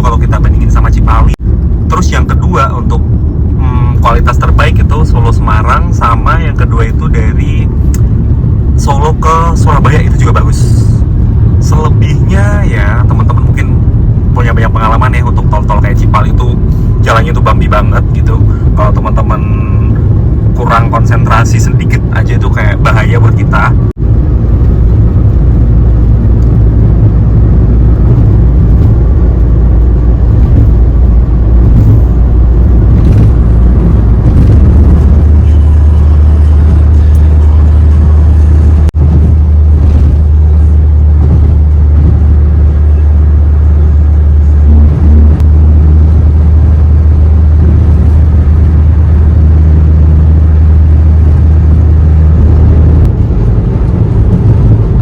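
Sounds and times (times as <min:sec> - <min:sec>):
road and wind rumble: 0:00.0 - 0:55.0.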